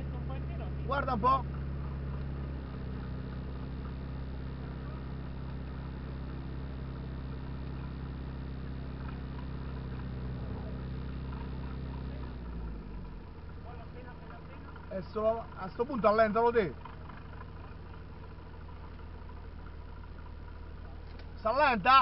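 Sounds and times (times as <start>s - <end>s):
vehicle engine humming steadily: 0.0s - 22.0s.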